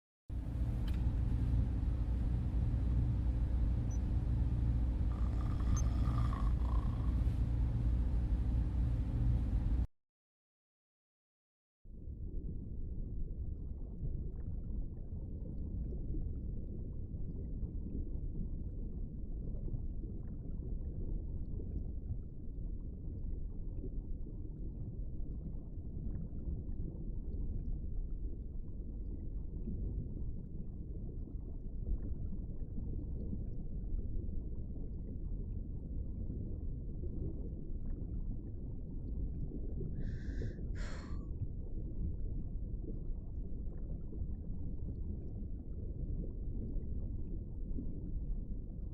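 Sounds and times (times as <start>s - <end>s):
low underwater rumble: 0.3s - 9.9s, 11.9s - 48.9s.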